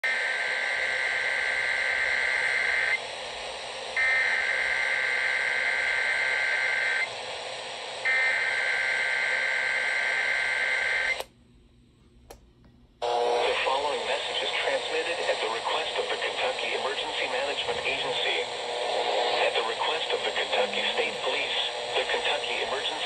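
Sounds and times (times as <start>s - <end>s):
radio static hiss: 0.1s - 11.3s, 13.0s - 23.0s.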